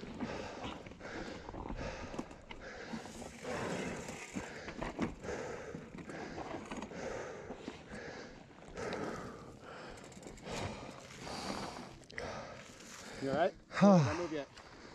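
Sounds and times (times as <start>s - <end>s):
person breathing heavily: 0.1s - 14.9s.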